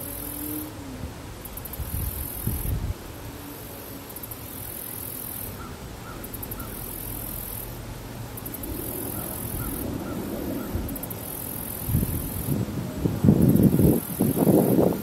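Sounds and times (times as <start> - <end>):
buzzing insect song: 0.0 - 0.8, 1.4 - 2.8, 3.5 - 15.0.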